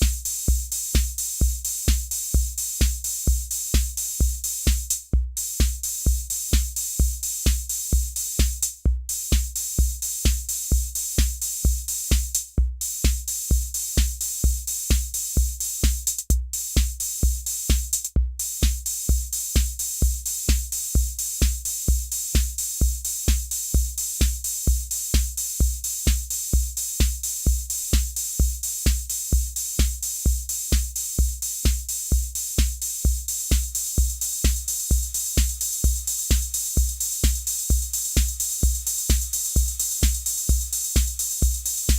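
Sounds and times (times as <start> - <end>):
drum machine bass drum: 0.0 - 41.9
hi-hat and cymbal hiss: 0.0 - 41.9.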